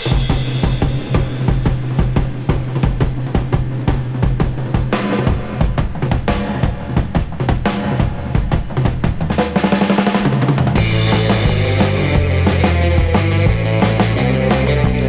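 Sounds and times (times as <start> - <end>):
bass notes: 0.0 - 8.2, 10.2 - 15.0
drum fill: 0.0 - 15.0
drum kit beat: 0.0 - 15.0
rock music: 0.0 - 15.0.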